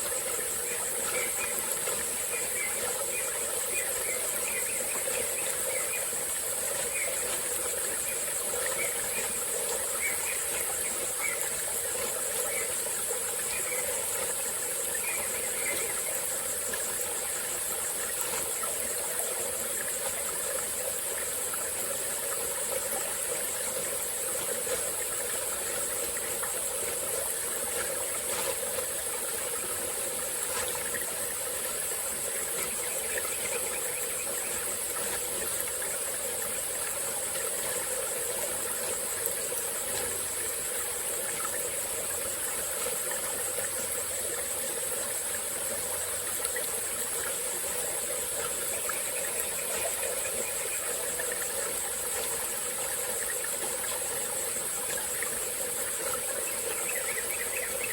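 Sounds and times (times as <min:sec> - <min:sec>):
insects trilling: 0:00.0 - 0:57.9
stream flowing: 0:00.0 - 0:57.9.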